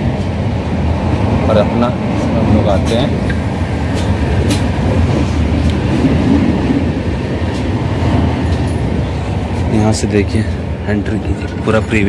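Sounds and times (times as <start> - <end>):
train rumble from inside coach: 0.0 - 12.0.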